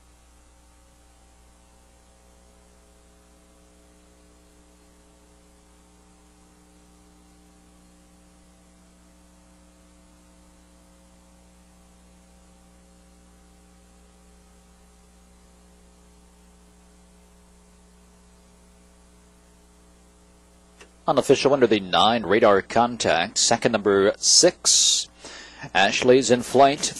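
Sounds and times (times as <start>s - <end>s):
background hiss: 0.0s - 26.9s
electrical mains hum: 0.0s - 26.9s.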